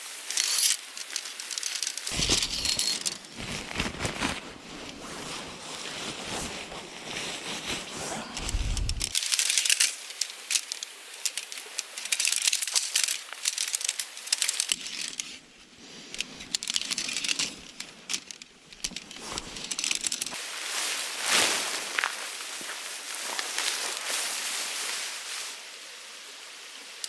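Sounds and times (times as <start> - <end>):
crinkling rustling handling noise: 0.0 - 15.4, 16.4 - 25.7.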